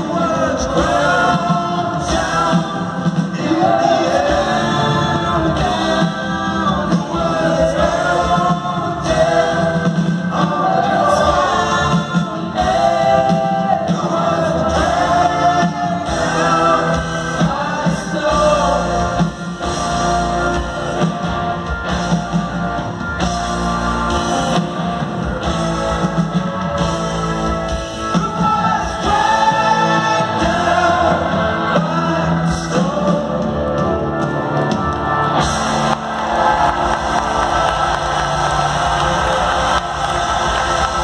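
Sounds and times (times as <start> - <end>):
live rock band with singing: 0.0 - 41.0.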